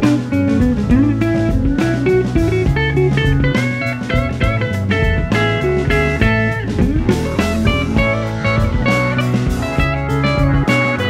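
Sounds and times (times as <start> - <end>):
drums: 0.0 - 11.0
electric bass: 0.0 - 11.0
electric guitar: 0.0 - 11.0.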